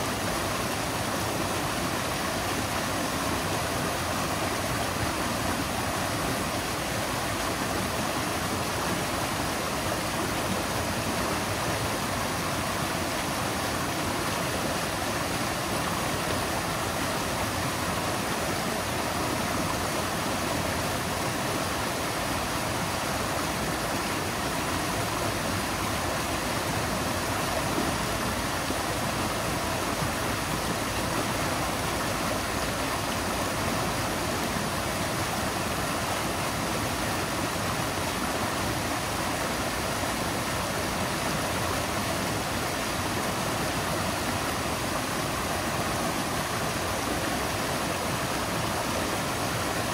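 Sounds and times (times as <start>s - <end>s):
river water flowing: 0.0s - 49.9s.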